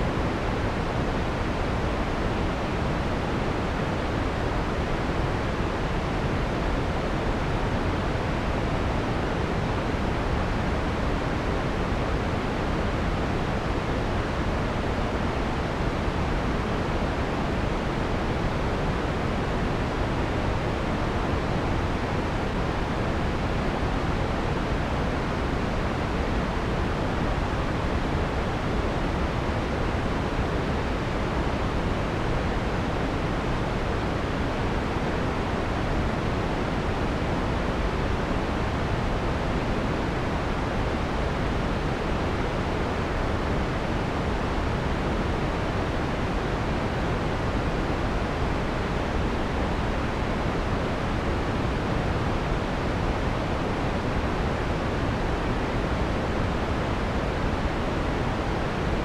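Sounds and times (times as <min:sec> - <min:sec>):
soft filtered white noise: 0:00.0 - 0:59.0.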